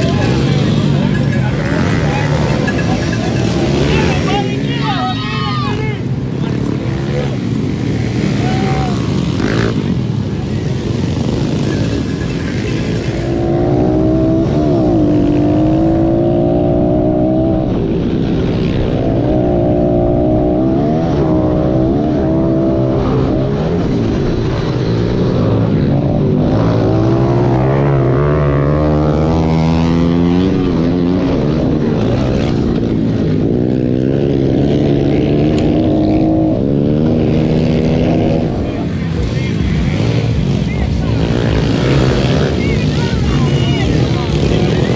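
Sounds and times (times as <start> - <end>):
pit bike engine revving: 0.0 - 44.9.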